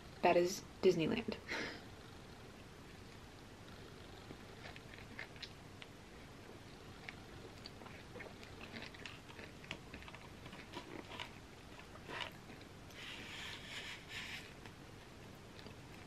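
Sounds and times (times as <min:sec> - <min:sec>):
chewing soft cookie: 0:02.4 - 0:16.0.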